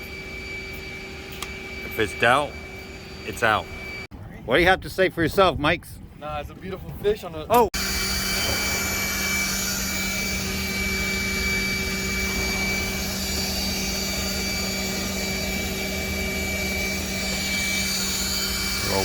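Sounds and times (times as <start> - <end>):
machine drone with whining tones: 0.0 - 4.1, 7.8 - 19.0.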